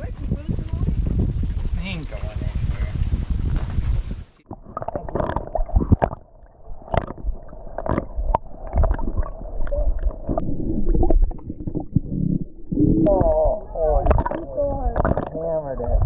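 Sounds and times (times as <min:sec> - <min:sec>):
muffled underwater rumble: 0:00.0 - 0:16.0.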